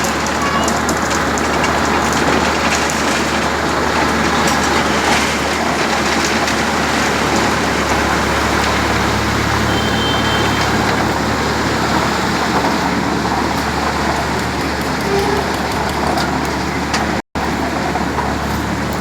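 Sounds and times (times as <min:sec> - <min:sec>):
concrete mixer rattling: 0:00.0 - 0:19.0
tractor engine running: 0:00.0 - 0:19.0.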